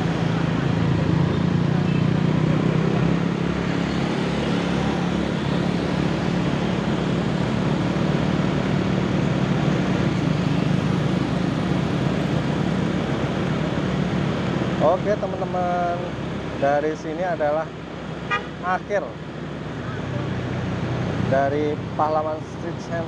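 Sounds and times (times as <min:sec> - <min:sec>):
motorcycle engine humming: 0:00.0 - 0:23.0
road and wind noise: 0:00.0 - 0:23.0.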